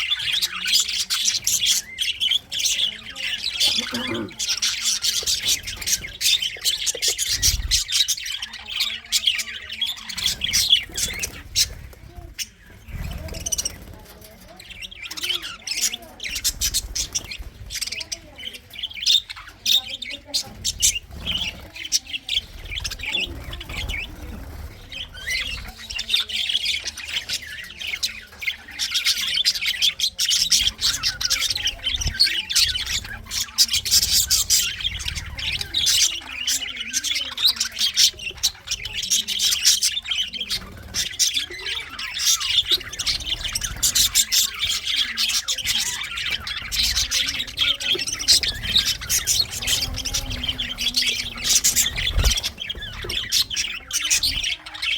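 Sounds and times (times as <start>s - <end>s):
budgerigars chattering and squawking: 0.0s - 54.9s.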